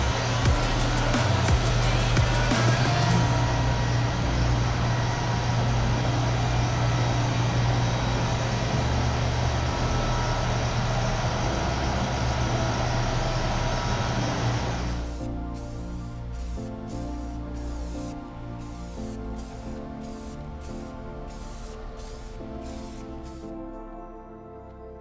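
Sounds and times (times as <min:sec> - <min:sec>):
machine humming: 0:00.0 - 0:23.8.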